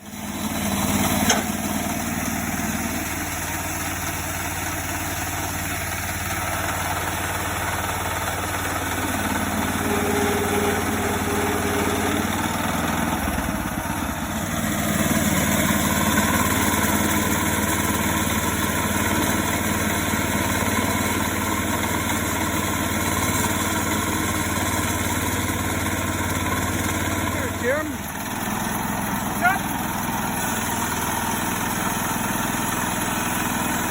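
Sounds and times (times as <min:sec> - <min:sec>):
sawmill engine running: 0:00.0 - 0:33.9.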